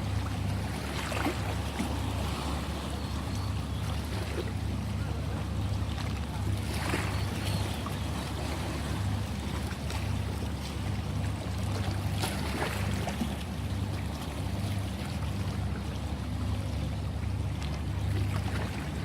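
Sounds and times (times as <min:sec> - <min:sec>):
ocean waves washing in: 0:00.0 - 0:19.0.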